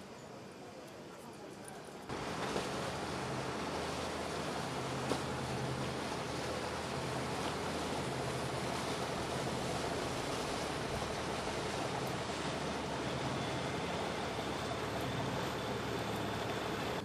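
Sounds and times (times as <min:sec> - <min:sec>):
wind: 0:00.0 - 0:17.0
motorboat engine running: 0:02.1 - 0:17.0
water washing: 0:02.1 - 0:17.0.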